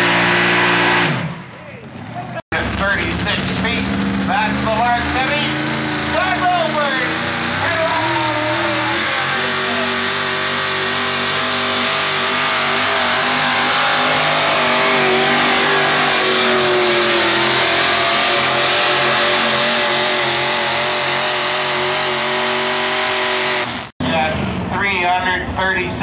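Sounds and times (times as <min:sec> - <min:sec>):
truck engine at high revs: 0:00.0 - 0:25.1.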